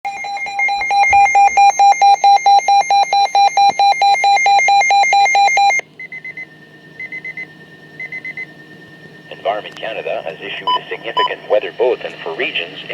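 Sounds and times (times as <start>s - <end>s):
rapid loud alarm beeping: 0.1s - 12.0s.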